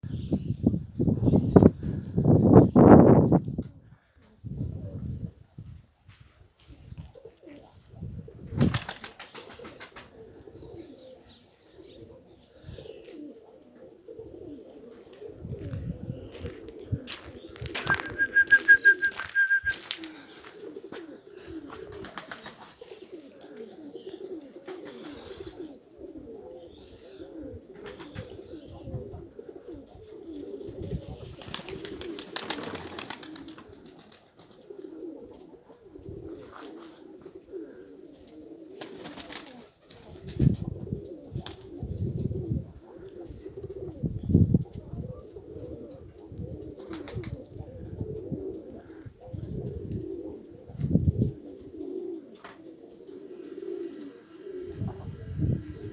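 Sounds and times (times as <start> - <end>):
pigeons cooing: 7.0 - 55.9.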